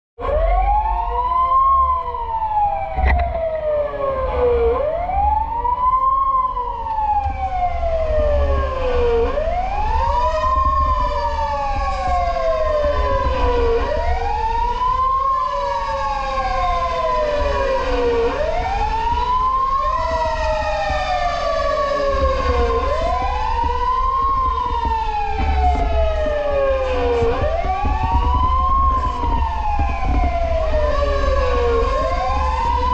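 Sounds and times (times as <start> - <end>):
fainter second siren: 0.2 - 32.9
fire truck siren wailing: 0.2 - 32.9.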